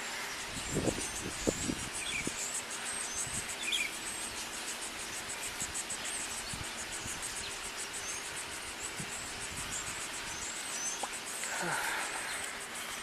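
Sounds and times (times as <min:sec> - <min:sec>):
bird-like chirps: 0:00.0 - 0:13.0
insects chirping: 0:00.0 - 0:13.0.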